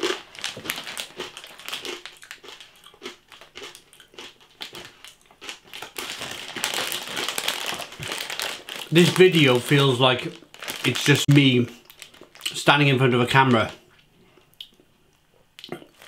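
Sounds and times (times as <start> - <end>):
plastic snack bag crinkling: 0.0 - 13.8.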